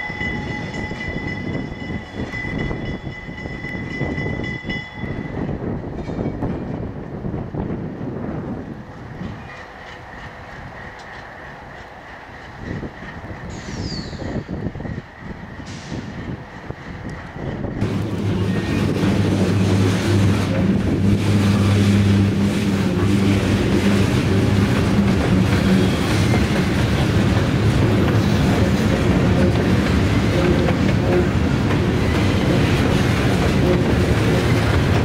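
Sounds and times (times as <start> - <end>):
diesel locomotive engine drone: 0.0 - 35.0
train wheels rolling on rails: 0.0 - 35.0.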